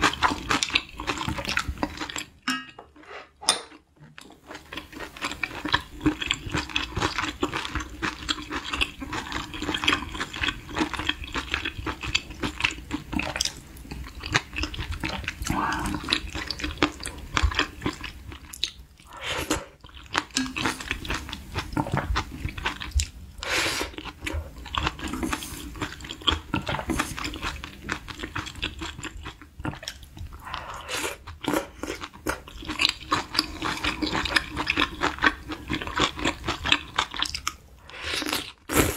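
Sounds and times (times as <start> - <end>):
person chewing with wet clicks: 0.0 - 2.4, 3.7 - 37.6.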